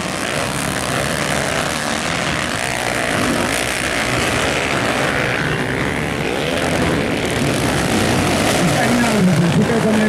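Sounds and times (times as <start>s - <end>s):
dirt bike engines racing: 0.0s - 10.0s.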